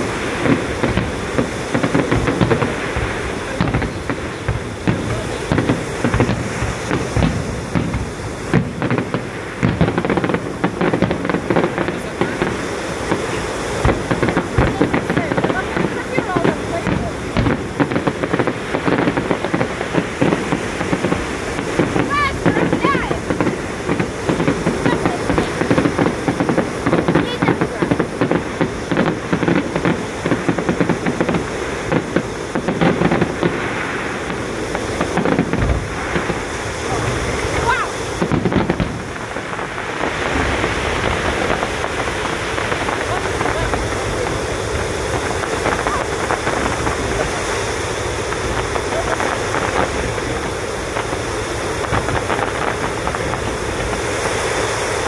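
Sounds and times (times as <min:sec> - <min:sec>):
fireworks bangs and pops: 0:00.0 - 0:55.0.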